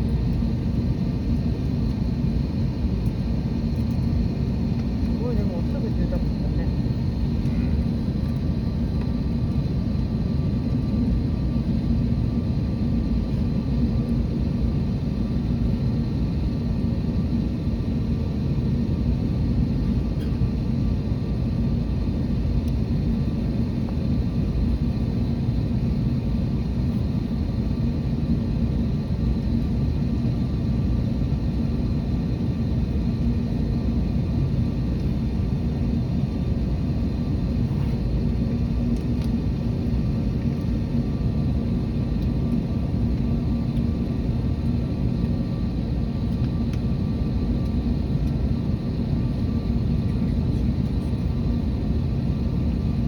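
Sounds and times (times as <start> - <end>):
faint steady hums: 0.0 - 53.0
jet engine rumble: 0.0 - 53.0.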